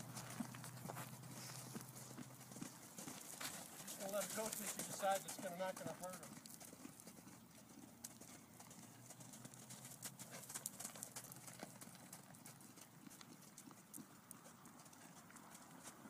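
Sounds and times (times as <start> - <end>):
horse hoofbeats on soft dirt: 0.0 - 16.0.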